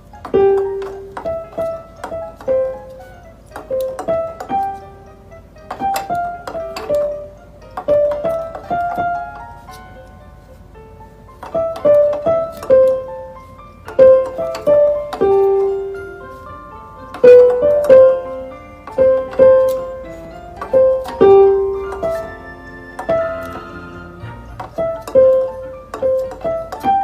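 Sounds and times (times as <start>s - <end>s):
piano melody: 0.0s - 27.0s.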